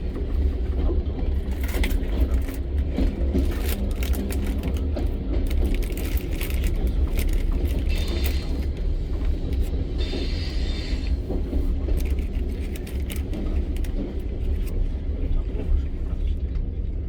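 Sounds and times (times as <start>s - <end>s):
train wheels rattling and clicking: 0.0s - 16.7s
train carriage rumbling on rails: 0.0s - 17.0s.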